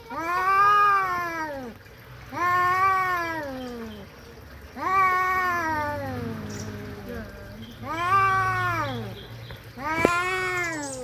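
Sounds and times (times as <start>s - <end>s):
cats yowling: 0.0s - 4.1s, 4.8s - 9.2s, 9.8s - 11.0s.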